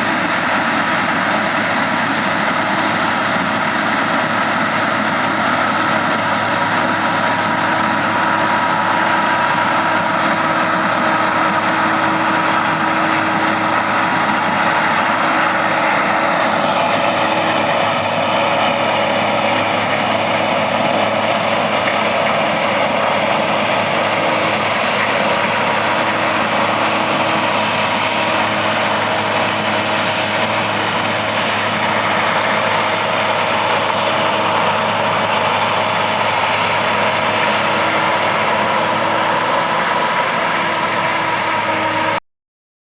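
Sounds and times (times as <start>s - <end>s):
combine harvester engine drone: 0.0s - 42.2s.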